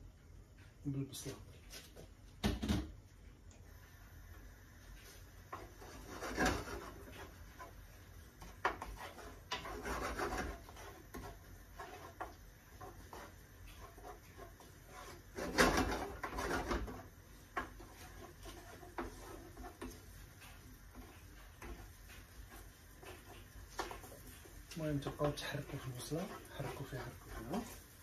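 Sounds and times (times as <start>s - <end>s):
spatula scraping onion in pan: 3.7s - 28.0s.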